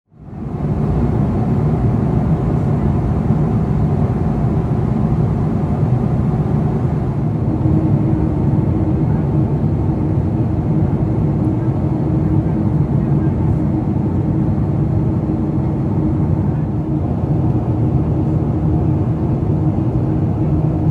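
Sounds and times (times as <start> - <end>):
aircraft cabin rumble: 0.2 - 20.9.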